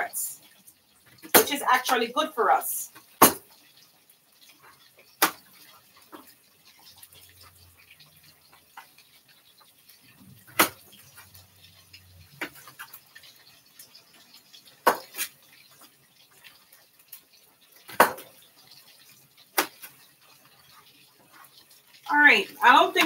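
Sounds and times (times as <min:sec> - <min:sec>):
oil frying in a pan: 0:00.0 - 0:23.0.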